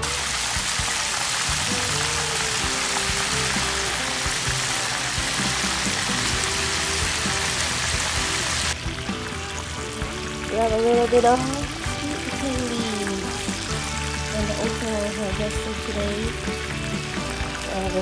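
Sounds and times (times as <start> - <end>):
fish sizzling in hot oil: 0.0 - 18.0
quiet background music: 0.0 - 18.0.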